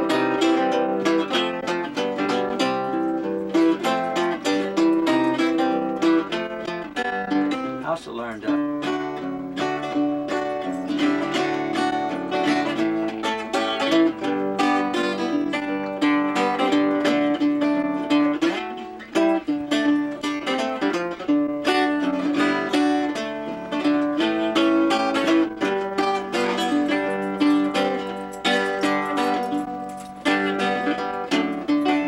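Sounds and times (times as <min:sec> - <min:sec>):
fingerstyle acoustic guitar: 0:00.0 - 0:32.0.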